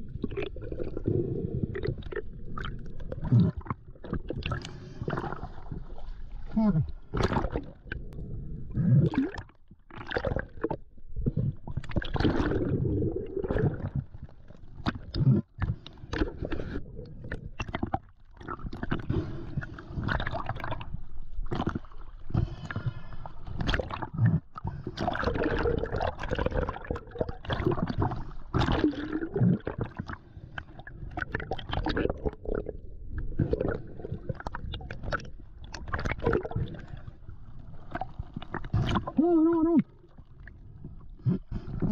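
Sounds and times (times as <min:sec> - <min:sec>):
seawater sloshing and gurgling: 0:00.0 - 0:41.9.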